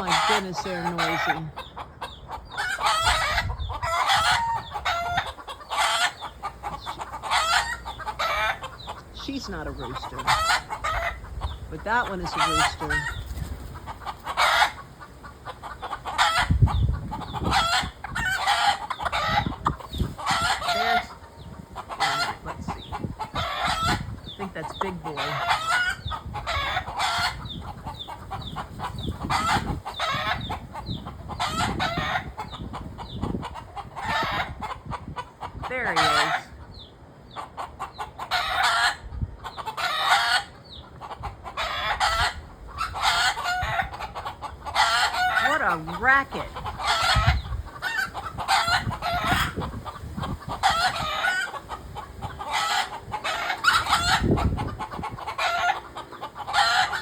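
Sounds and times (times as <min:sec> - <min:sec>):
roosters crowing: 0:00.0 - 0:36.6, 0:37.6 - 0:57.0
hens squawking and clucking: 0:00.0 - 0:57.0.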